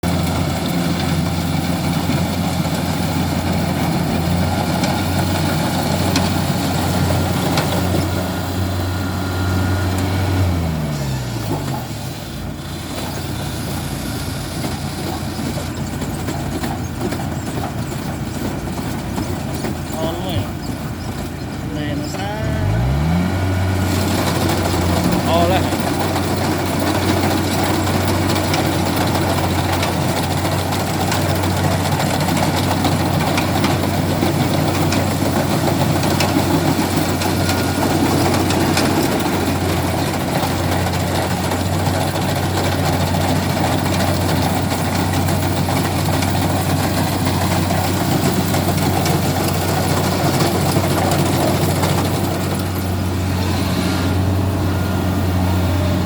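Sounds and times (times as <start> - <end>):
combine harvester engine drone: 0.0 - 56.0
harvester machinery working: 0.0 - 56.0.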